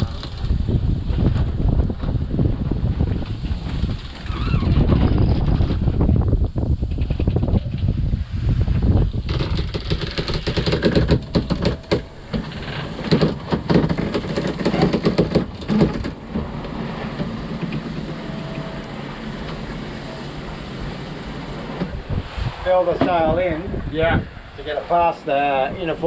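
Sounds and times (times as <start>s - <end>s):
water noise: 0.0s - 26.0s
wind: 0.0s - 26.0s.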